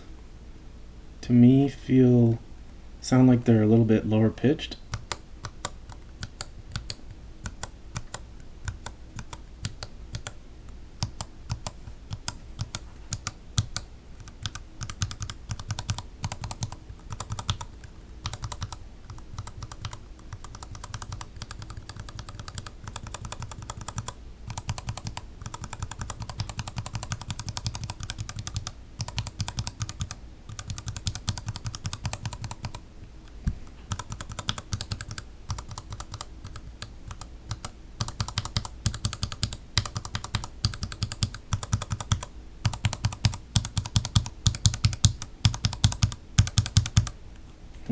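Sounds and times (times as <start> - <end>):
mechanical keyboard typing: 4.9 - 10.4, 11.0 - 32.8, 33.9 - 47.2.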